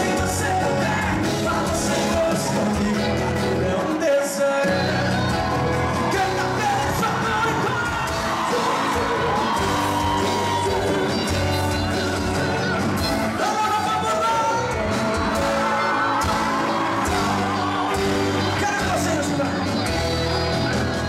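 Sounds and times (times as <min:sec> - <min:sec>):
lead vocal singing: 0:00.0 - 0:12.7, 0:13.3 - 0:21.0
live band playing: 0:00.0 - 0:21.0.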